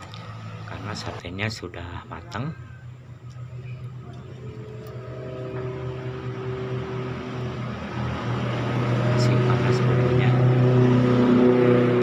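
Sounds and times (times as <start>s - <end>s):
steady motor hum: 0.0s - 12.0s.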